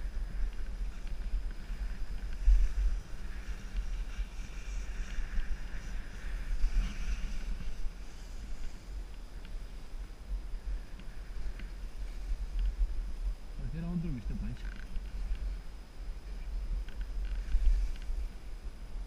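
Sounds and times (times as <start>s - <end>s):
sliding on packed snow: 0.0s - 18.6s.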